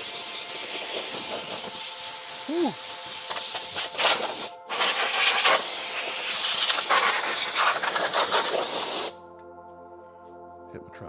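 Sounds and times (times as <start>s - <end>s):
compressed air hissing: 0.0s - 9.2s.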